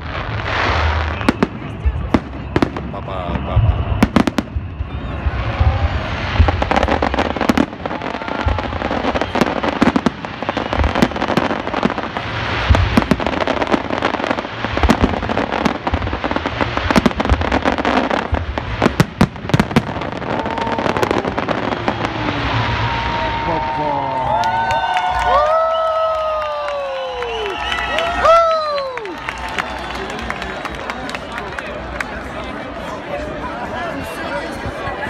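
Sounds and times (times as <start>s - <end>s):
firework fountains rushing: 0.0s - 31.0s.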